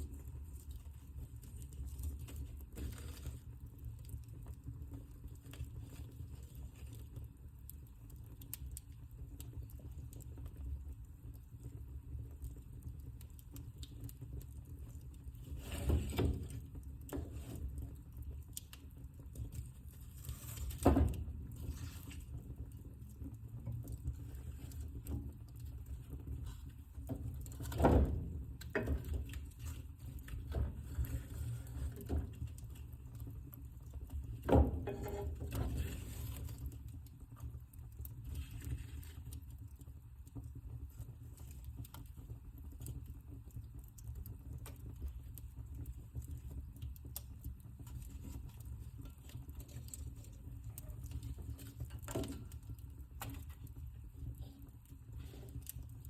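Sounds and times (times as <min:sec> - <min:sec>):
fire crackling and popping: 0:00.0 - 0:56.0
fire rumbling in fireplace: 0:00.0 - 0:56.0.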